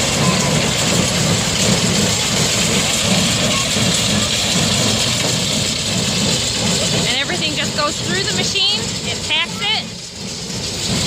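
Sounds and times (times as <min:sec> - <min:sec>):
diesel tractor running: 0:00.0 - 0:11.0.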